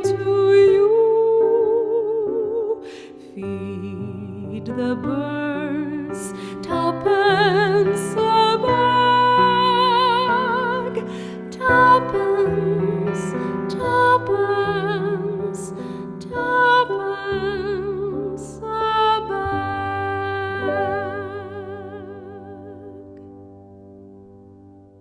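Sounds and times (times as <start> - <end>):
woman singing with vibrato: 0.0 - 22.9
piano chords: 0.0 - 25.0.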